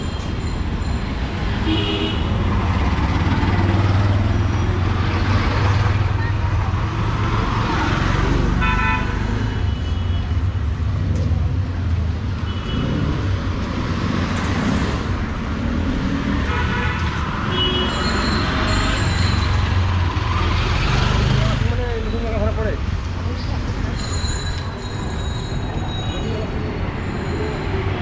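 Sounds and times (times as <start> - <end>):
city traffic engine rumble: 0.0 - 28.0.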